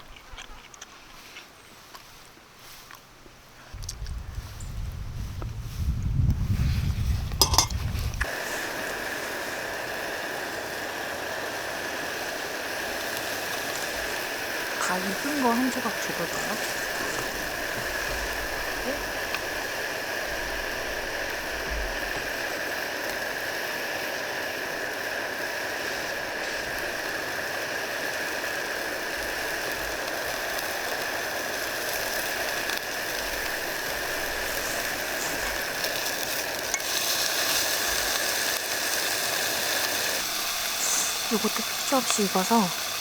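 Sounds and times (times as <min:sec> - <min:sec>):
beef sizzling: 0:07.3 - 0:43.0.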